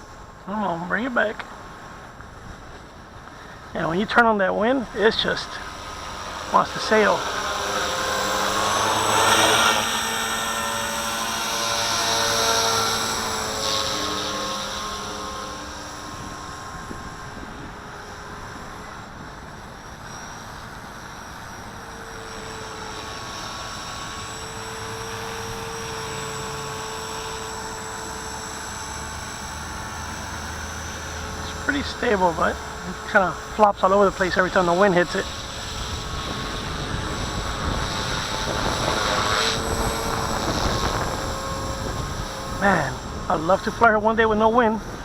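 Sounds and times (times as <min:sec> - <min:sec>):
gusty wind: 0:00.0 - 0:45.0
rc helicopter rotor whining: 0:00.0 - 0:45.0.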